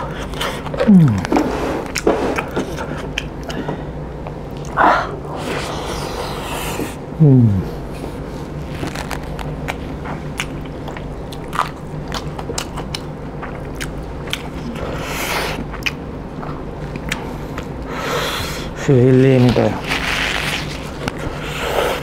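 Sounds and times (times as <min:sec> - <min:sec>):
man chewing food: 0:00.0 - 0:22.0.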